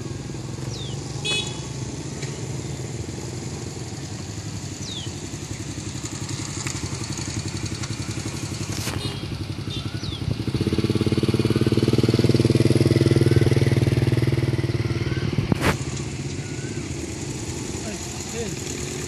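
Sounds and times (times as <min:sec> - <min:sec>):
motorcycle passing at low revs: 0:00.0 - 0:19.0.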